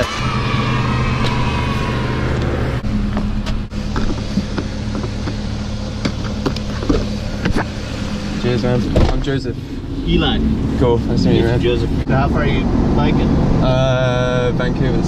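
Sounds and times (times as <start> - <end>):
pickup truck idling: 0.0 - 12.1.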